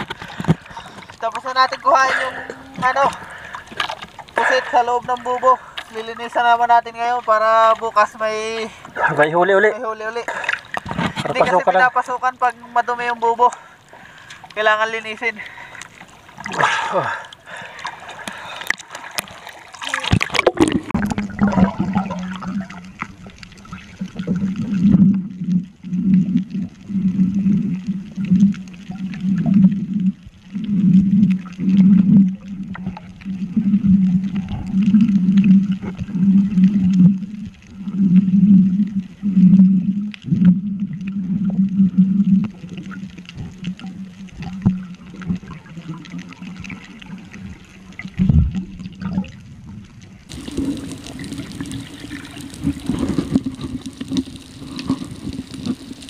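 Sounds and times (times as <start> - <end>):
faint water hiss: 0.0 - 56.0
low underwater hum: 0.0 - 56.0.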